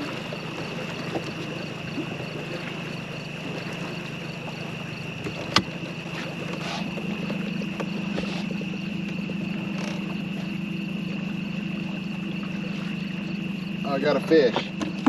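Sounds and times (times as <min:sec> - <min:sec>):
night insects chirping: 0:00.0 - 0:15.0
outboard motor idling: 0:00.0 - 0:15.0.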